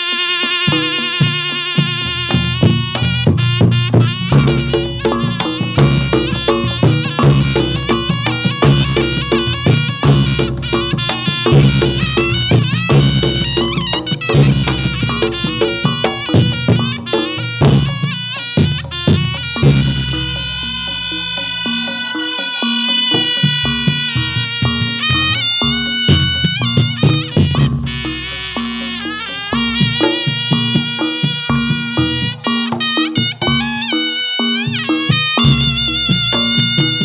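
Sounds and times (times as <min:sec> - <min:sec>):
fast hand drumming: 0:00.0 - 0:37.0
shrill reed pipe melody: 0:00.0 - 0:37.0.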